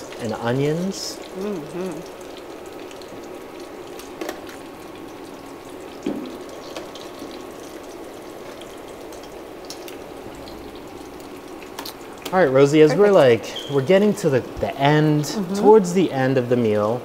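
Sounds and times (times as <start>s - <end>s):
plantain sizzling in hot oil: 0.0s - 17.0s.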